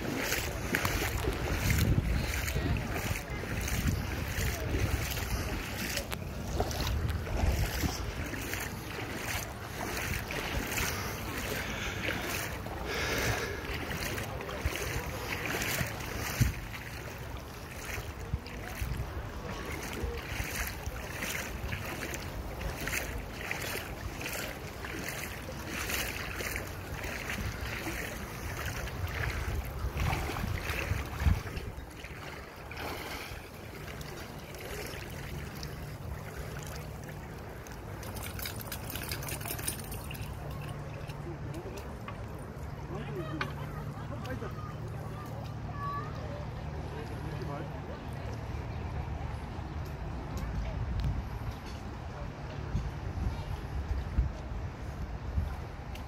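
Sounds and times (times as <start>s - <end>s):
wind rumbling on microphone: 0.0s - 41.5s, 48.8s - 56.0s
footsteps splashing through water: 0.0s - 56.0s.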